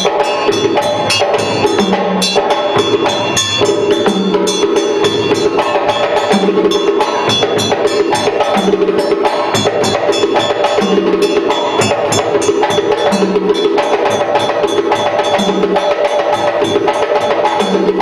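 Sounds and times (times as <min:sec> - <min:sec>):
hand drums playing fast rhythm: 0:00.0 - 0:18.0.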